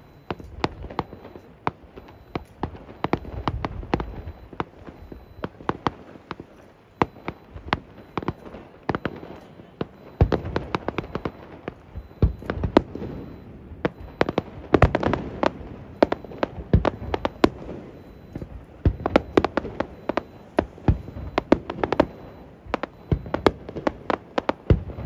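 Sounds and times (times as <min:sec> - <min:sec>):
deep firework booms: 0:00.0 - 0:25.0
fireworks bangs and crackling: 0:00.0 - 0:25.0.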